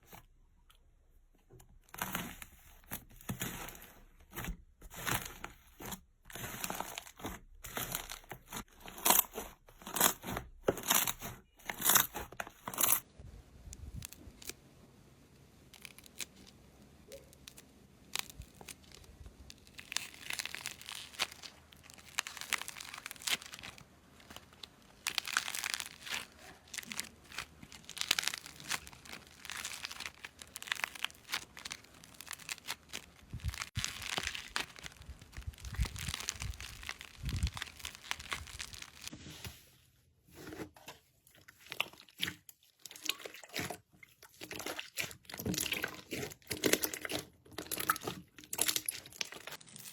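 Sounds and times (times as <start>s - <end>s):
slime crackling and tearing: 1.8s - 13.0s, 15.6s - 39.1s, 41.5s - 49.9s.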